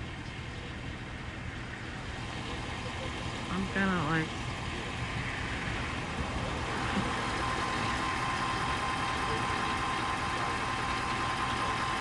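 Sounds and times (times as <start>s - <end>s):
thin steady whine: 0.0s - 12.0s
vehicle engine idling: 0.0s - 12.0s.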